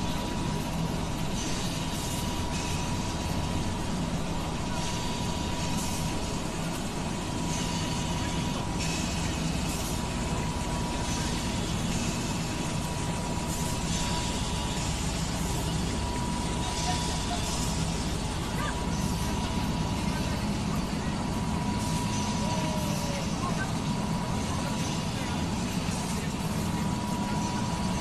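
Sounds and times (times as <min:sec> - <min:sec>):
low machinery hum: 0:00.0 - 0:28.0
machinery hissing: 0:00.0 - 0:28.0.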